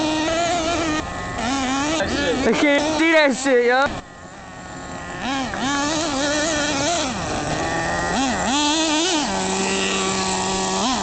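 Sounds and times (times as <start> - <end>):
rc truck motor whining: 0.0 - 11.0.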